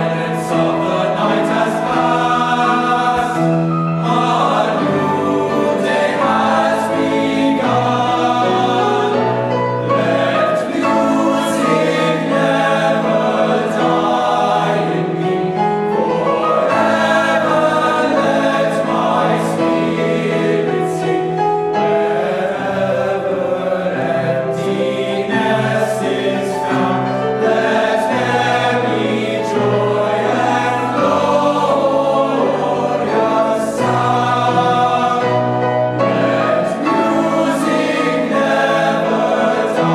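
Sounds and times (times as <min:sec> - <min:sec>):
boys choir singing in parts: 0:00.0 - 0:39.9.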